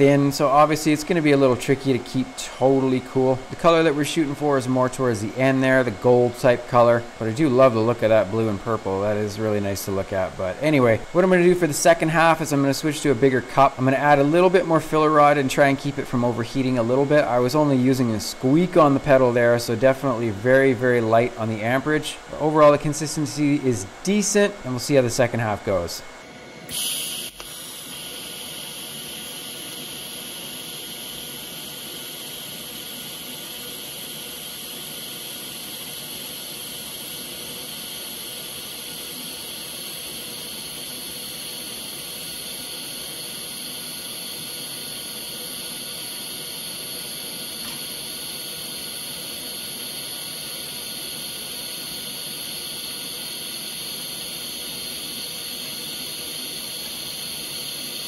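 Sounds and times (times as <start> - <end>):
welding arc hissing: 0.0 - 26.0, 26.6 - 58.0.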